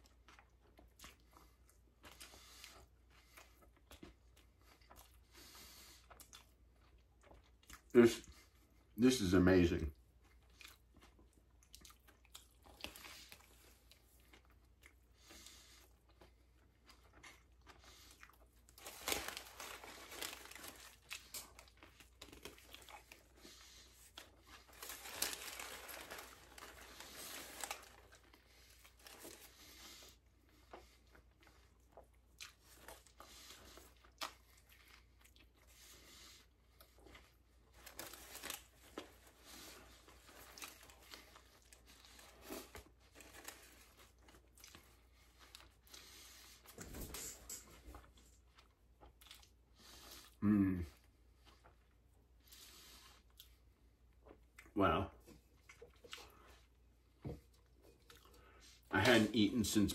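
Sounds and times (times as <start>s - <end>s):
chewing with crunches: 0.0s - 9.0s, 9.9s - 59.2s.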